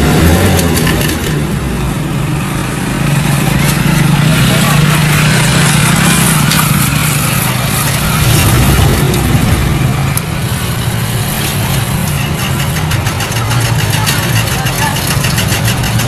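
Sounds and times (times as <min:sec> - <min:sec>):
diesel truck engine labouring: 0:00.0 - 0:16.0.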